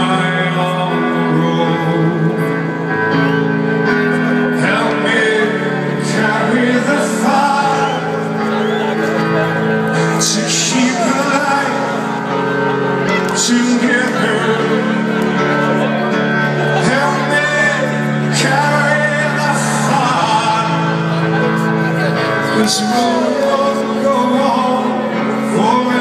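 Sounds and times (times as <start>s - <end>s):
live band music: 0.0s - 26.0s
man singing: 0.0s - 26.0s.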